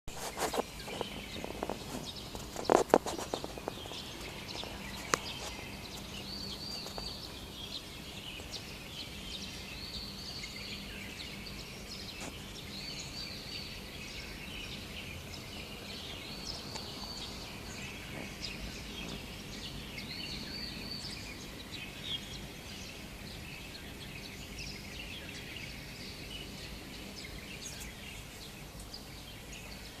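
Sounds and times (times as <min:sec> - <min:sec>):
birds chirping: 0:00.1 - 0:30.0
low city hum: 0:00.2 - 0:30.0.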